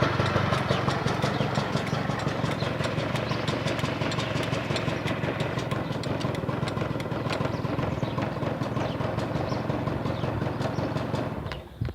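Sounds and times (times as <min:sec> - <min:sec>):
engine knock: 0:00.0 - 0:11.9
scooter engine idling: 0:00.0 - 0:11.9.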